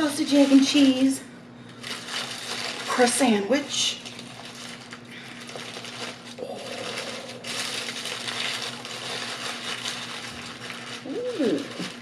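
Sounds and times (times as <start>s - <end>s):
paper packaging rustling: 0.0s - 1.1s, 1.7s - 12.0s
faint steady hum: 0.0s - 12.0s.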